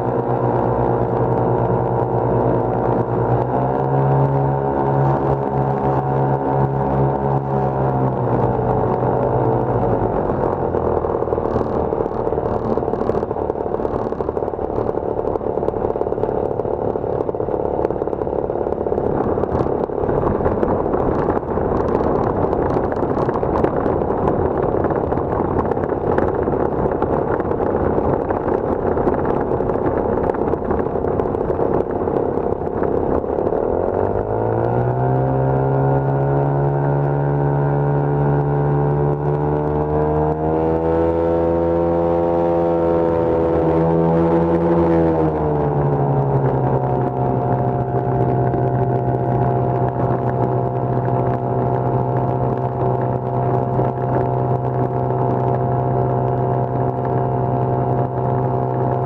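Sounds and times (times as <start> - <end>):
ultralight aircraft engines running: 0.0 - 59.0.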